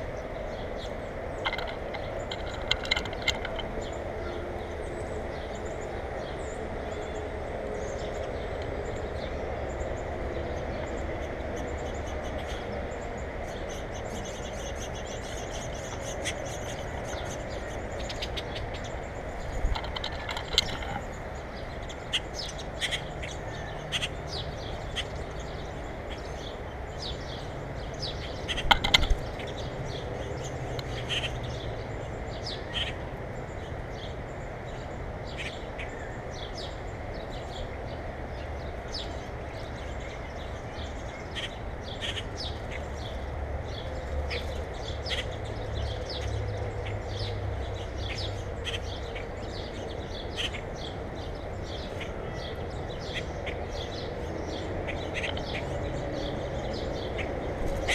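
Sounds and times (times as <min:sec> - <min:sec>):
wild birds chirping: 0:00.0 - 0:57.9.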